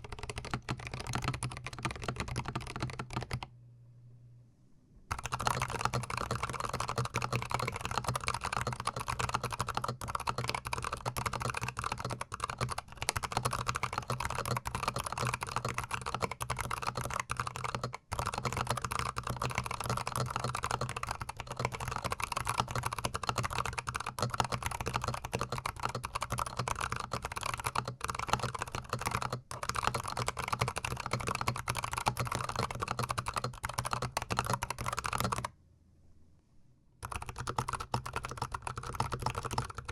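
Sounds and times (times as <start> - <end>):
mechanical keyboard typing: 0.0 - 3.5, 5.1 - 35.5, 37.0 - 39.9.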